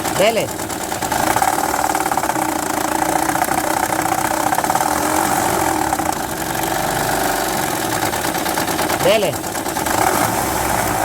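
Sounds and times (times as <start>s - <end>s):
car engine revving: 1.0s - 11.0s.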